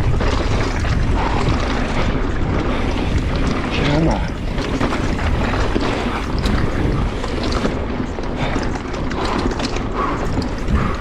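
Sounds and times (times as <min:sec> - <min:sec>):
bike clattering and rattling: 0:00.0 - 0:11.0
wind rushing over microphone: 0:00.0 - 0:11.0.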